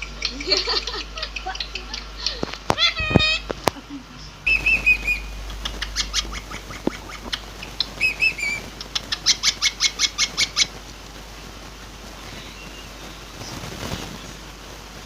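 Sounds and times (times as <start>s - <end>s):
parrot chirping: 0.0s - 14.6s.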